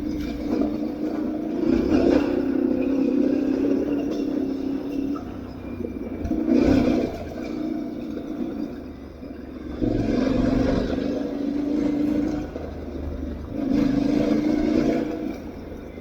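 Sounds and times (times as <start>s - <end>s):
motorcycle engine under throttle: 0.0s - 16.0s.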